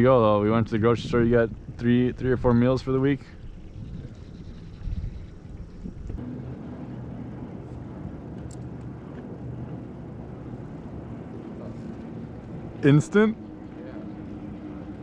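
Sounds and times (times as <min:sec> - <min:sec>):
faint pitched drone: 0:00.0 - 0:15.0
low motor hum: 0:00.0 - 0:15.0.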